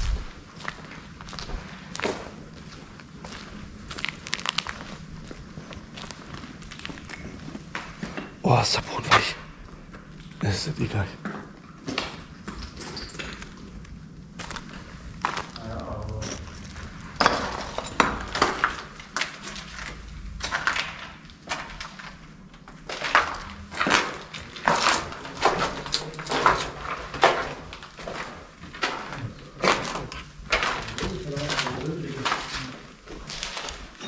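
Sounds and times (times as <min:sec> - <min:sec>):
footsteps crunching over debris: 0:00.0 - 0:10.2, 0:13.4 - 0:34.0.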